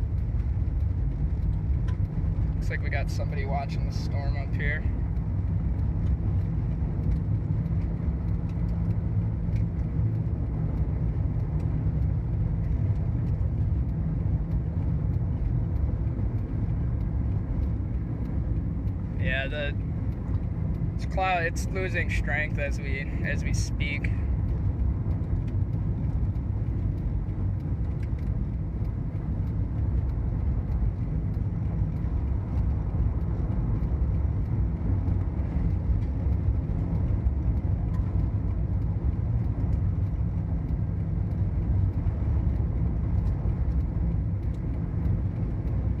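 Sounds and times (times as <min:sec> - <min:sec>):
road and engine noise in car: 0:00.0 - 0:46.0.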